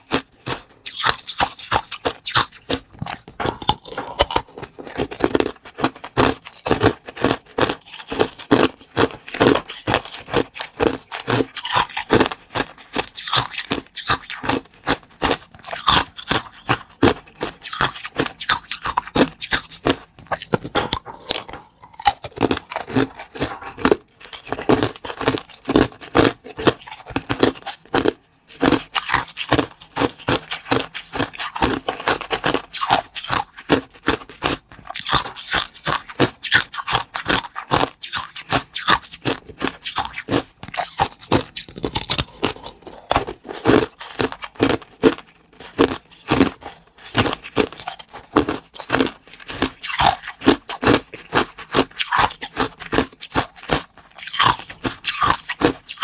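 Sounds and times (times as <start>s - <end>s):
crunching cakes while eating: 0.0s - 56.0s.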